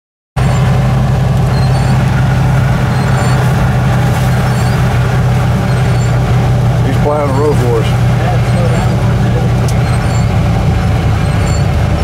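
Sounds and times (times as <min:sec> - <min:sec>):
engine and road drone in car cabin: 0:00.4 - 0:12.0.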